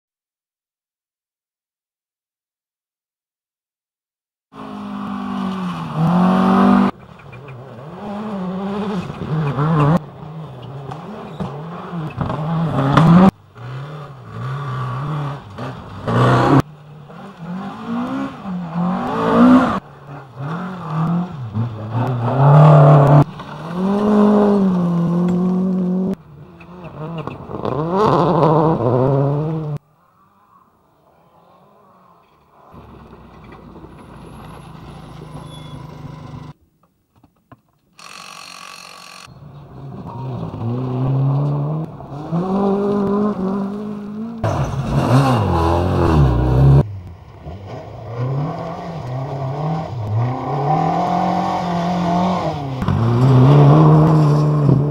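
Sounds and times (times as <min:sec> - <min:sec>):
rally car engines revving: 0:04.6 - 0:36.6, 0:39.4 - 0:54.9.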